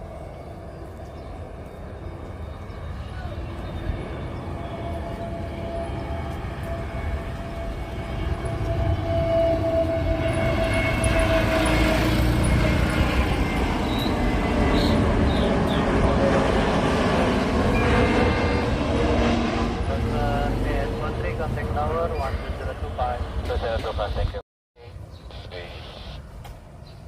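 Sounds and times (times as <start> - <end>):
jet engines whining and roaring: 0.0 - 26.8.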